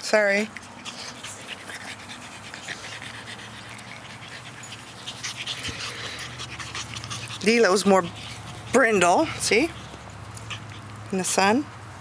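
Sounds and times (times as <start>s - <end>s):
puppies panting: 0.4s - 11.1s.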